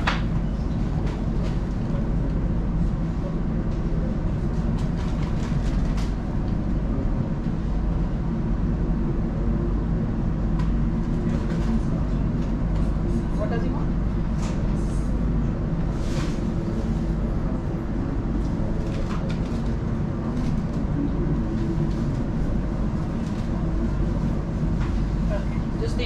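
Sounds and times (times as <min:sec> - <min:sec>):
train rumble from inside carriage: 0:00.0 - 0:26.0.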